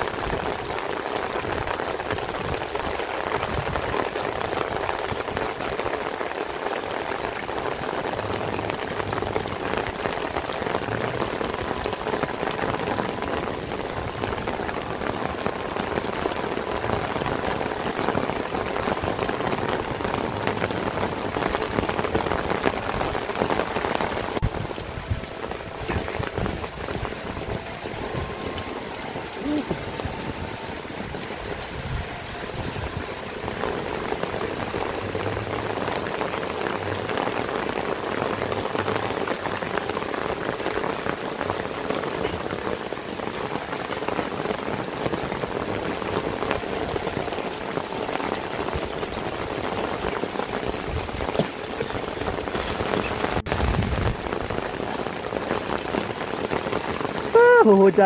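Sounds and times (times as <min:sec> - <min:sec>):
heavy rain on roofs and ground: 0:00.0 - 0:58.0.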